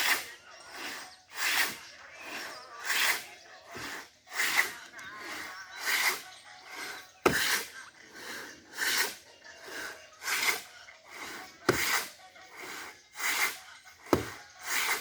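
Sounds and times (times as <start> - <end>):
hand saw cutting wood: 0.0 - 15.0.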